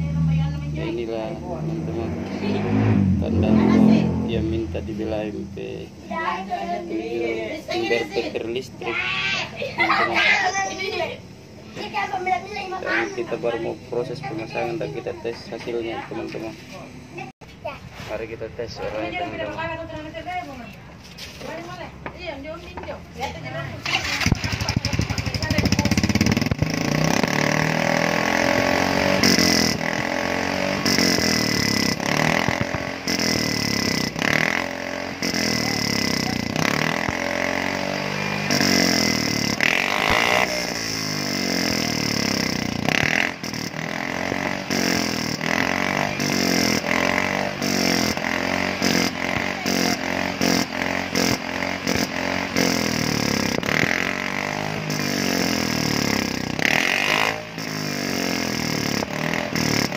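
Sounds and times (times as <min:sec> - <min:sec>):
scooter engine revving: 0:00.0 - 0:16.5, 0:21.7 - 0:59.9.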